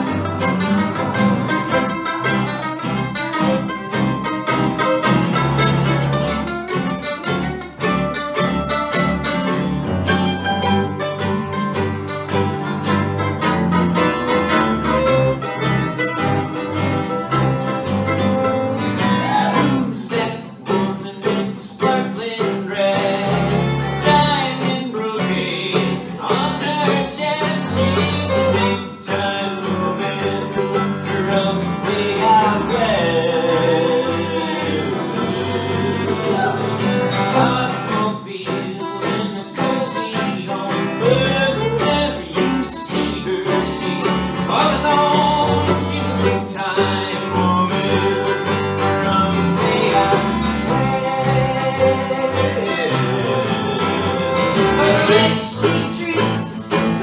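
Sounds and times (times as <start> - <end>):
acoustic guitar: 0.0 - 57.0
fiddle: 0.0 - 57.0
mandolin: 0.0 - 57.0
upright bass: 0.0 - 57.0.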